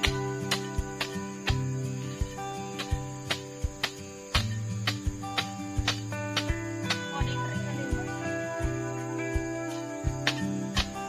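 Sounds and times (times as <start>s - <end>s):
gentle guitar music: 0.0s - 11.0s.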